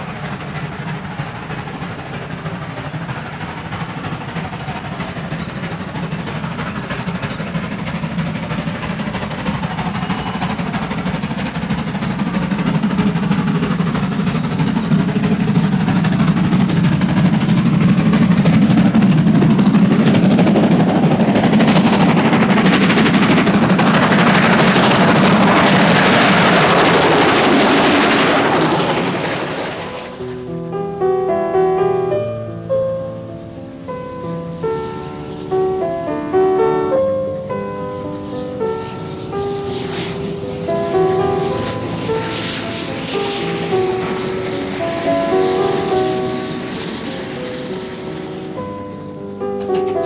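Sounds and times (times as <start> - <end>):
steam locomotive running: 0.0 - 50.0.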